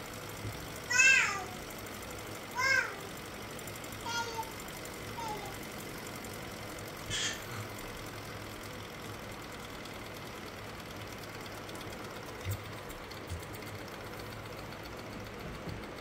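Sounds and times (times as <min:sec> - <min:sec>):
model engine whirring and rattling: 0:00.0 - 0:16.0.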